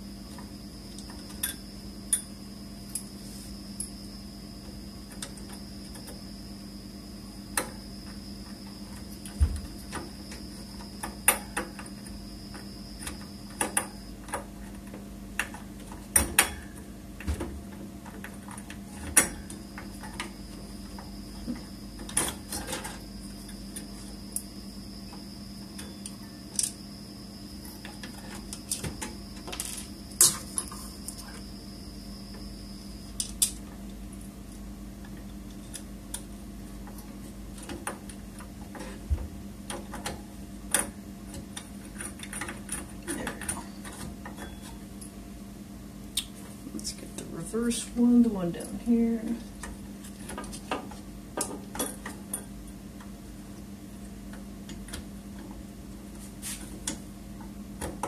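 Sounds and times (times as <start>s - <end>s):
faint high whine: 0.0s - 49.7s
steady low hum: 0.0s - 58.0s.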